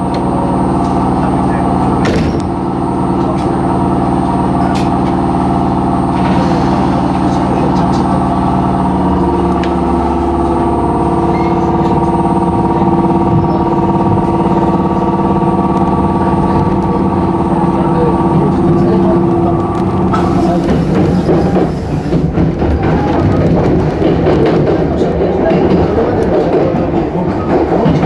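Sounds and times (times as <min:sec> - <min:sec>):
electric train hum: 0:00.0 - 0:28.0
train running gear rumble: 0:00.0 - 0:28.0.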